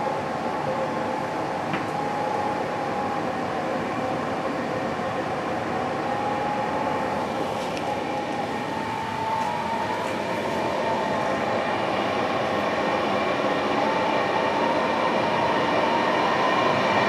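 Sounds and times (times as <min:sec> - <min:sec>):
steady whine: 0:00.0 - 0:17.0
train rolling noise: 0:00.0 - 0:17.0.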